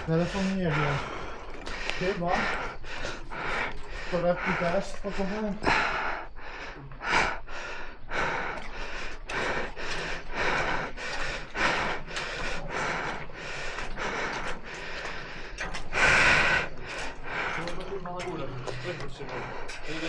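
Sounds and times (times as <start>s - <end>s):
person breathing hard: 0.0s - 20.0s.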